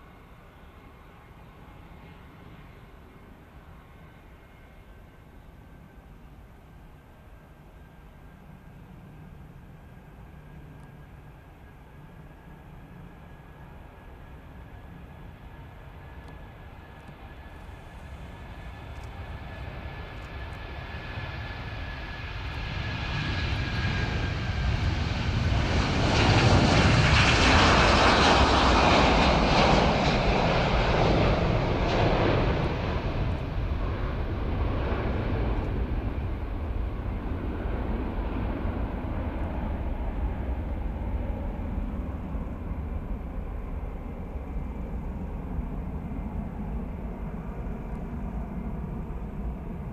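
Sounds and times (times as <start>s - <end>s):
jet airliner taking off: 0.0s - 49.9s.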